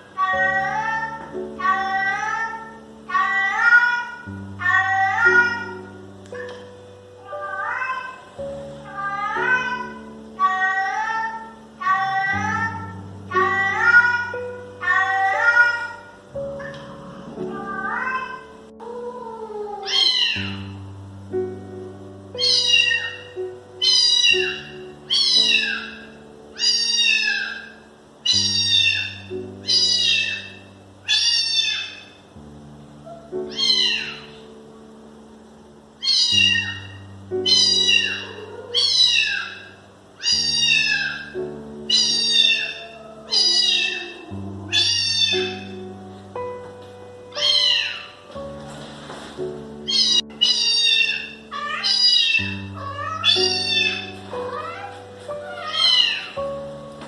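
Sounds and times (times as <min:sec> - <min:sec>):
background music with slow chords: 0:00.0 - 0:57.0
cat meowing: 0:00.2 - 0:06.6, 0:07.2 - 0:20.8, 0:22.4 - 0:32.2, 0:33.0 - 0:34.5, 0:36.0 - 0:45.9, 0:47.3 - 0:48.4, 0:49.8 - 0:56.8.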